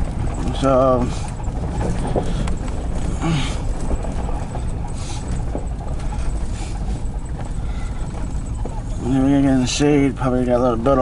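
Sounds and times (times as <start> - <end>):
freight train rumble: 0.0 - 11.0
wheels clicking over rails: 0.0 - 11.0.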